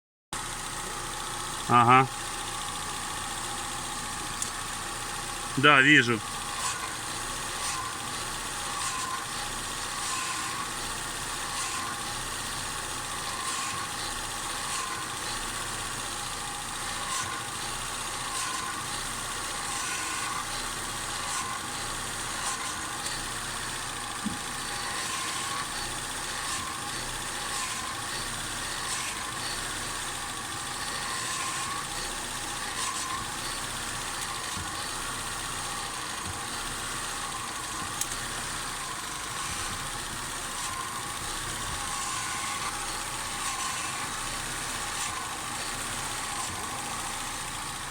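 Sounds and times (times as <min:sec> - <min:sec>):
car engine idling: 0:00.4 - 0:47.9.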